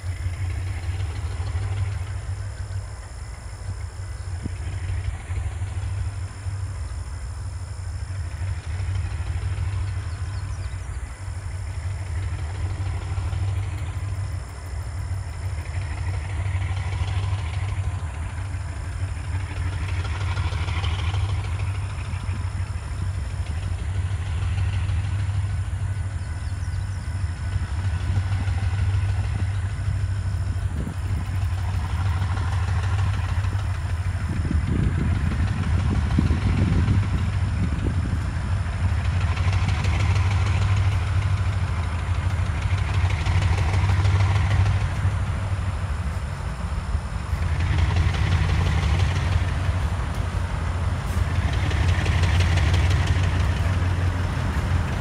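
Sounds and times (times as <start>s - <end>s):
diesel locomotive engines droning: 0.0s - 55.0s.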